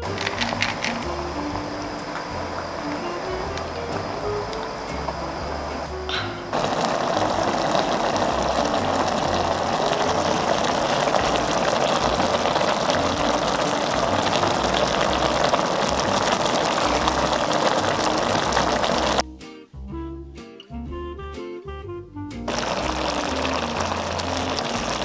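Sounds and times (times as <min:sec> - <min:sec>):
broth boiling and bubbling: 0:00.0 - 0:19.2, 0:22.5 - 0:25.0
background music: 0:00.0 - 0:25.0.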